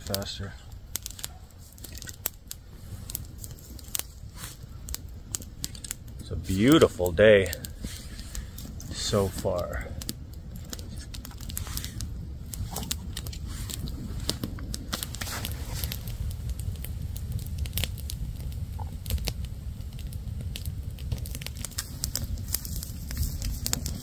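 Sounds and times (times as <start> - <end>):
campfire crackling: 0.0 - 24.0
sharp fire pops: 0.0 - 24.0.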